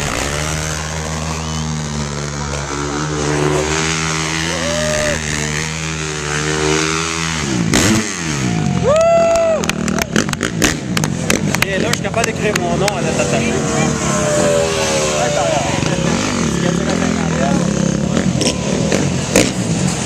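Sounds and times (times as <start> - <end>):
dirt bike engine revving: 0.0 - 20.0
rush of noise: 0.0 - 20.0.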